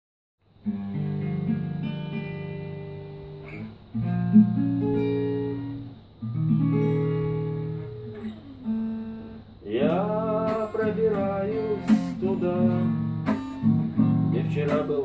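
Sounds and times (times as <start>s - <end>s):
acoustic guitar chords: 0.5s - 15.0s.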